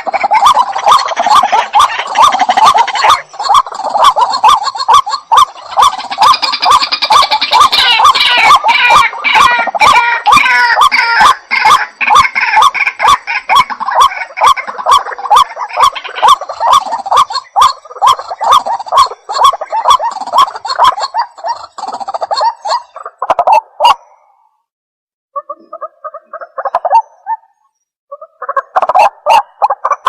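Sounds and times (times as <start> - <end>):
bird harsh croaking calls: 0.0 - 24.5, 25.3 - 30.0.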